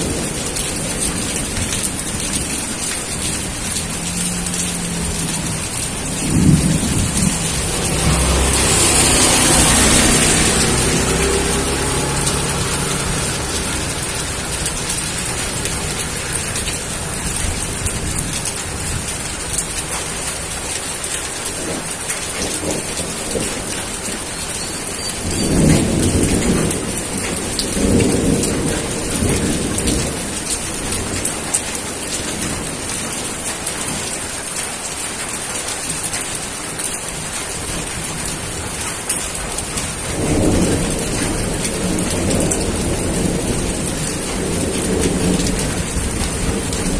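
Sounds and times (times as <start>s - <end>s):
thunder rumbling: 0.0s - 31.6s, 39.4s - 46.9s
steady rain: 0.0s - 46.9s.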